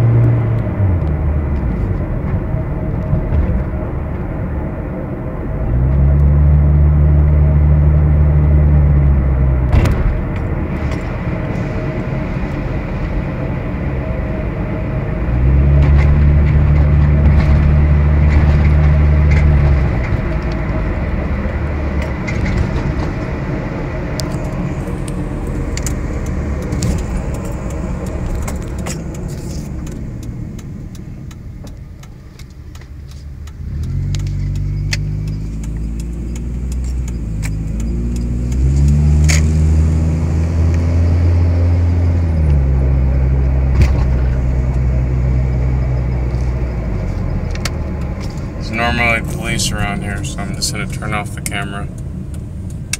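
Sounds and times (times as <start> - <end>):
car engine droning: 0.0 - 52.9
road noise: 0.0 - 52.9.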